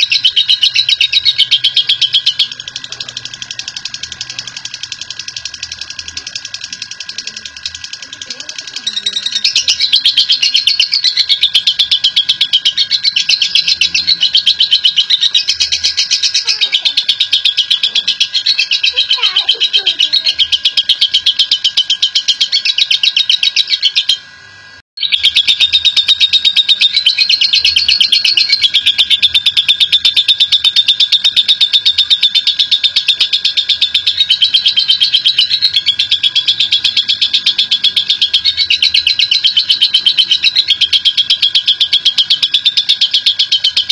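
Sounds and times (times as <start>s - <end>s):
lovebird chattering trill: 0.0s - 43.9s.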